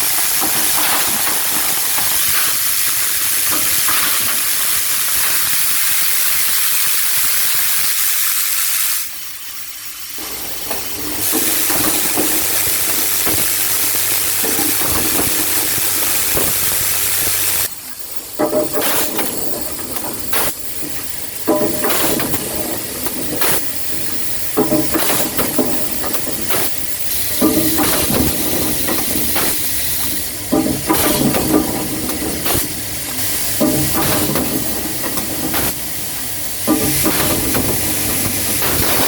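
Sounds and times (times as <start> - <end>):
feeders humming: 0.0 - 6.0, 10.2 - 39.0
pneumatic actuators clacking and hissing: 0.0 - 39.0.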